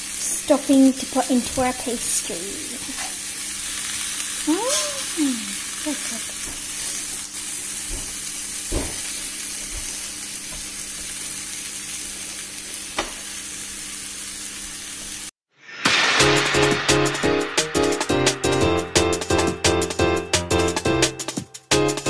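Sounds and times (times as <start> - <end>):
food sizzling in frying pan: 0.0 - 18.0.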